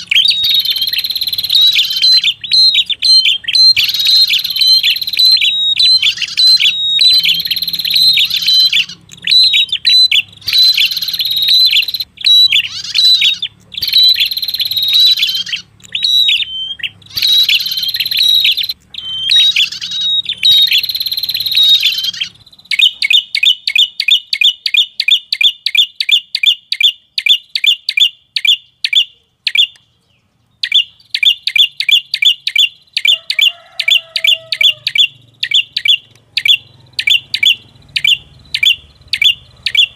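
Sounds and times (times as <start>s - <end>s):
sharp bird chip notes: 0.0s - 29.9s, 30.6s - 39.9s
bird chattering song: 0.0s - 39.9s.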